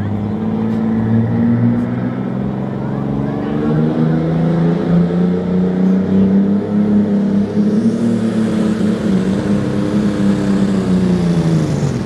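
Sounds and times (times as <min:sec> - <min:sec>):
tractor engine loud drone: 0:00.0 - 0:12.0.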